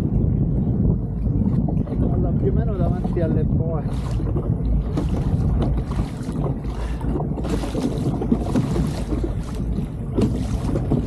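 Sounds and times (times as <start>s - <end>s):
water washing against kayak: 0.0s - 11.0s
wind buffeting microphone: 0.0s - 11.0s.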